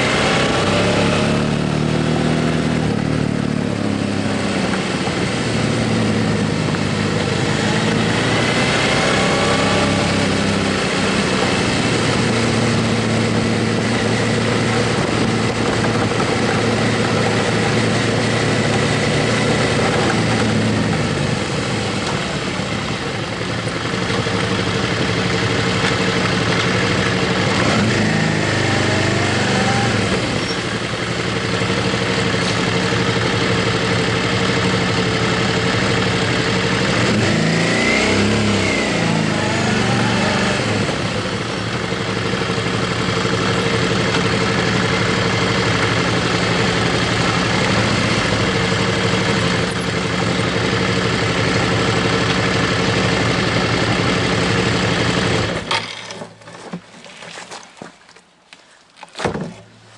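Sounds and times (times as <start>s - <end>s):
motorcycle engine running: 0.0s - 56.2s
wind and road noise: 0.0s - 59.9s.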